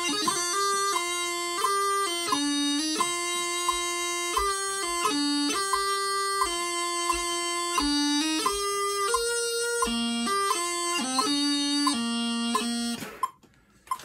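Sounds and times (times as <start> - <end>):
practice chanter melody: 0.0 - 13.2.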